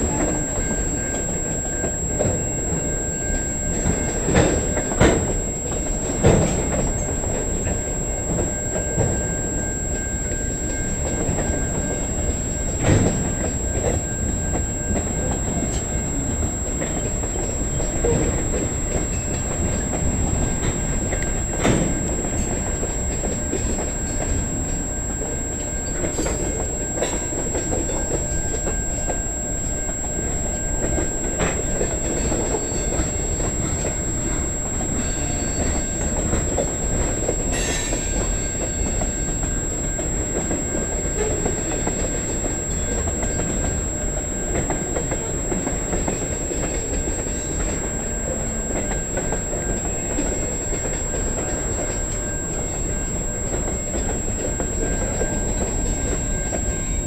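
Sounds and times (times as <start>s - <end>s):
train cars clanking: 0.0s - 57.0s
train wheels rumbling on rail: 0.0s - 57.0s.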